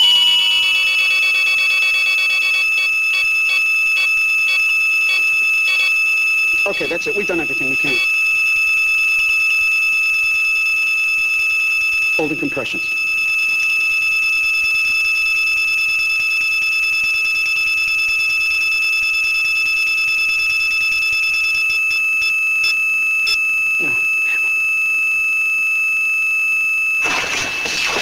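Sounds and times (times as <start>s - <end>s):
cardiac monitor flatline tone: 0.0s - 28.0s.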